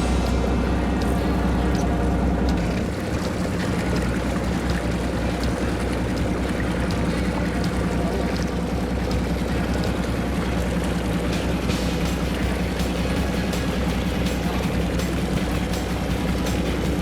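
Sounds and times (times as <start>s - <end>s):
boat engine droning: 0.0s - 17.0s
water splashing against hull: 0.0s - 17.0s.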